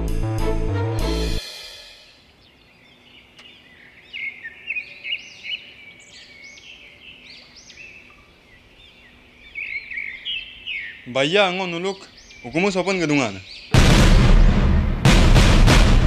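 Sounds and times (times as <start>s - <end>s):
birds chirping: 1.9s - 15.0s.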